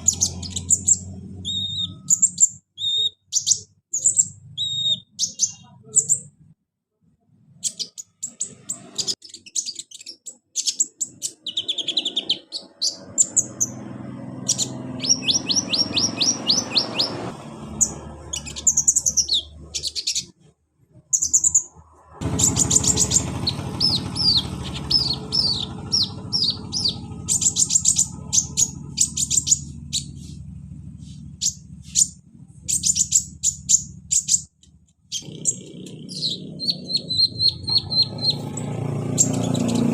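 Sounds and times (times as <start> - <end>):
sunbirds chirping and trilling: 0.0 - 6.4, 7.5 - 39.9.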